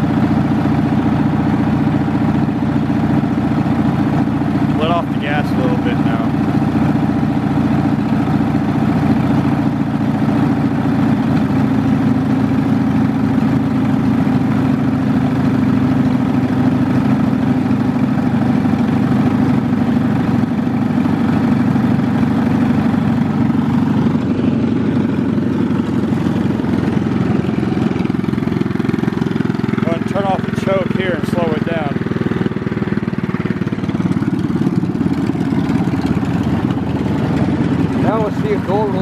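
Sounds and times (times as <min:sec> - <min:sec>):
lawn tractor engine running: 0:00.0 - 0:39.0.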